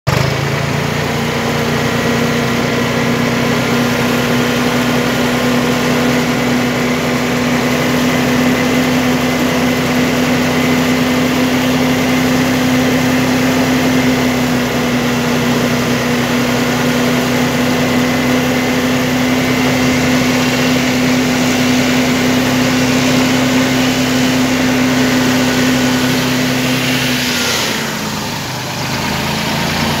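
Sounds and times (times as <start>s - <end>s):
tractor engine with whine: 0.1s - 30.0s.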